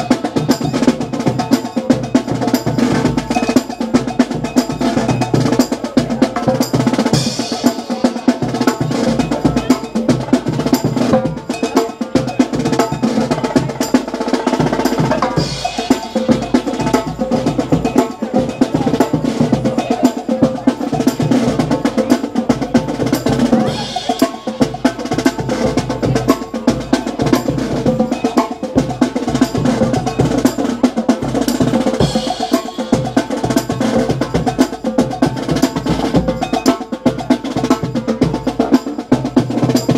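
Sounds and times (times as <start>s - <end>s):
bass drum beat: 0.0s - 39.9s.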